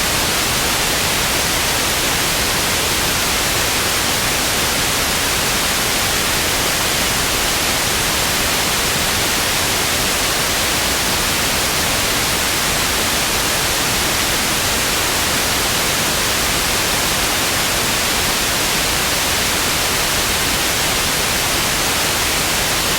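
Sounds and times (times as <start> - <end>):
television static hiss: 0.0 - 22.9.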